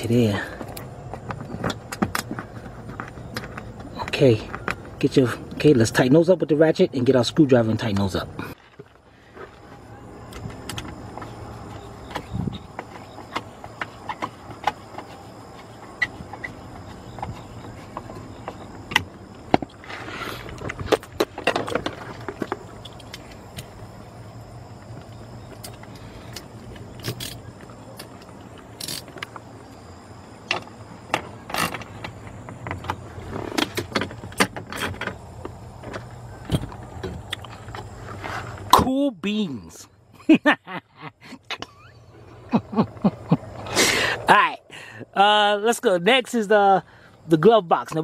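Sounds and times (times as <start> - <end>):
steady low hum: 0.0 - 46.2.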